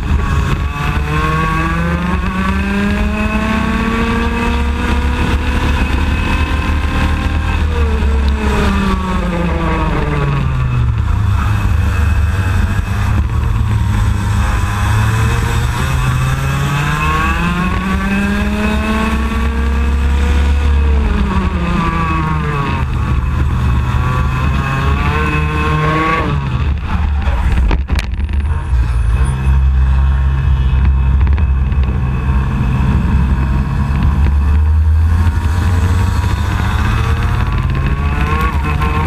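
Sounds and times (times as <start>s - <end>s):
kart engine revving: 0.0s - 39.0s
low wind rumble: 0.0s - 39.0s.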